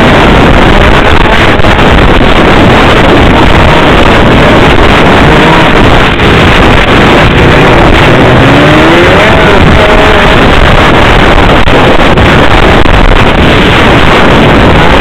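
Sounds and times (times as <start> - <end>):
snowmobile engine running: 0.0 - 15.0
wind buffeting microphone: 0.0 - 15.0.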